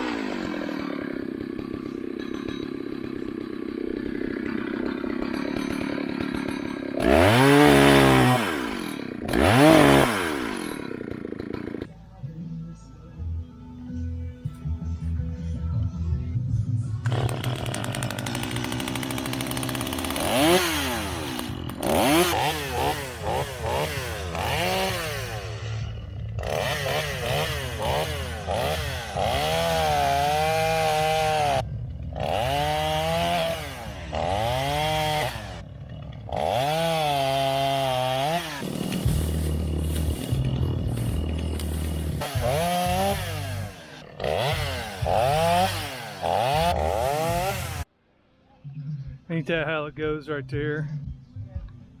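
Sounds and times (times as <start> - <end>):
chainsaw revving while cutting wood: 0.0 - 11.9, 17.0 - 47.9.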